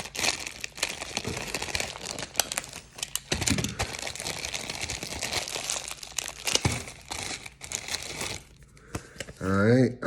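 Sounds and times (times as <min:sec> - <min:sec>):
packaging crinkling and rustling: 0:00.0 - 0:09.5.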